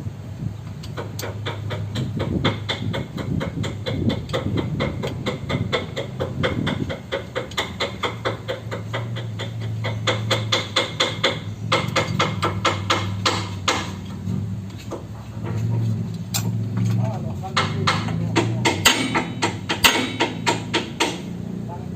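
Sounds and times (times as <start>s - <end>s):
steady low hum: 0.0s - 21.9s
rapid hammer strikes: 0.9s - 14.1s, 14.9s - 21.4s.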